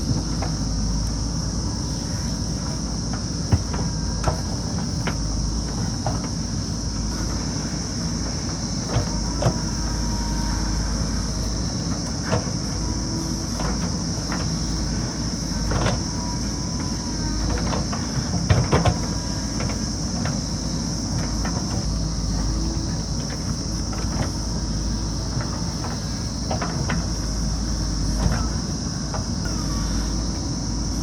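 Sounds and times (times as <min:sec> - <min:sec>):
diesel engine running: 0:00.0 - 0:31.0
high insect drone: 0:00.0 - 0:31.0.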